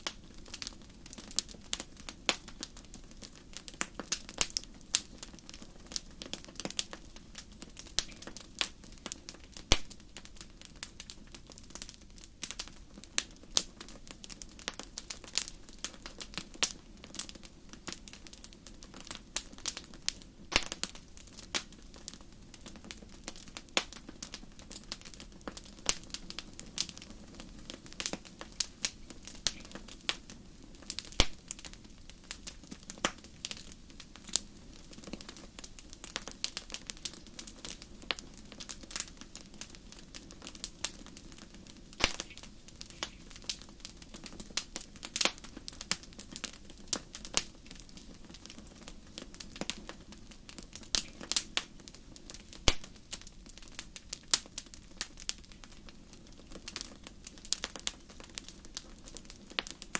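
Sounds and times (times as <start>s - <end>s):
low rush of flames: 0.0s - 59.9s
wood fire crackling and popping: 0.0s - 59.9s.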